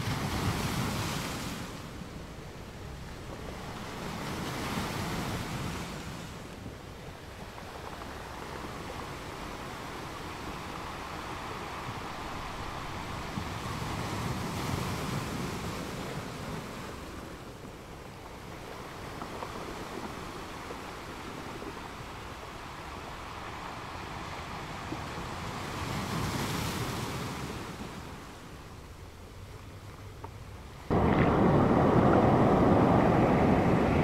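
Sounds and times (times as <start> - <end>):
large waves breaking: 0.0 - 29.4, 30.6 - 34.0.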